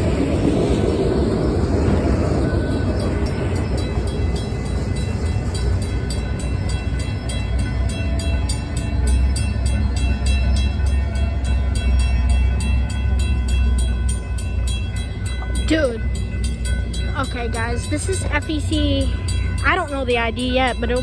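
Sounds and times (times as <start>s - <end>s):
loud low train rumble: 0.0s - 21.0s.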